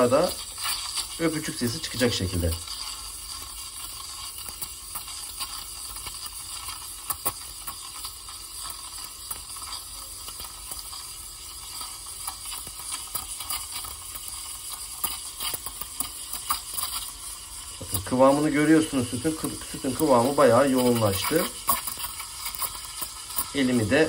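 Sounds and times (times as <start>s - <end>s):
steam wand hissing in milk: 0.0s - 24.0s.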